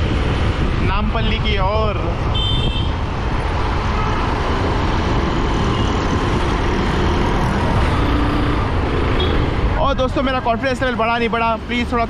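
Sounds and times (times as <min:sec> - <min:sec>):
wind on microphone: 0:00.0 - 0:09.8.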